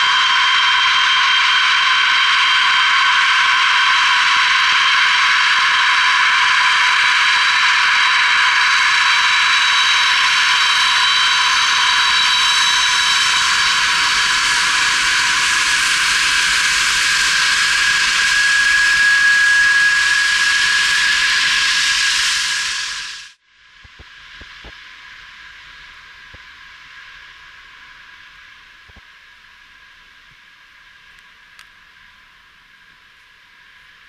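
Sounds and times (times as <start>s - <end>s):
jet engines hissing and whining: 0.0s - 34.0s.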